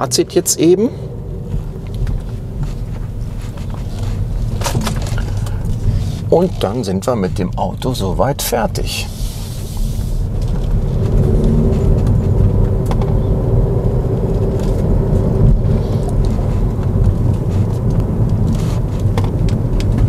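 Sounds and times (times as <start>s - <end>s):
constant hum: 0.0s - 20.0s
tyre and drivetrain rumble: 0.0s - 20.0s.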